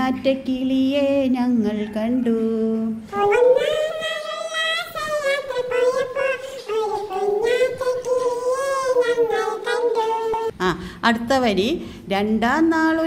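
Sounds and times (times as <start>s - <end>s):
woman singing wordless melody: 0.0s - 10.7s.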